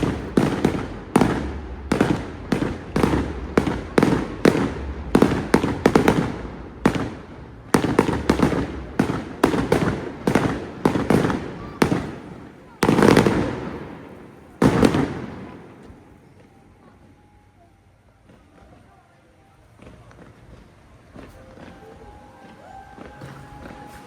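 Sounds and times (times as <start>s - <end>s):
fireworks bangs with rumbling echo: 0.0s - 17.3s, 18.2s - 24.0s.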